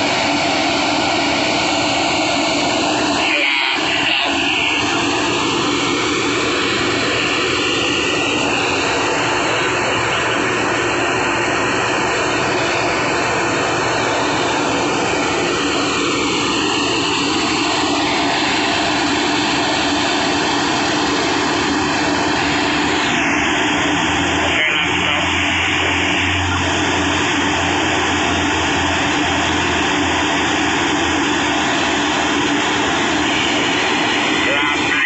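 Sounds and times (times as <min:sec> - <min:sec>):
heavy machinery droning: 0:00.0 - 0:35.0
low hum: 0:00.0 - 0:35.0.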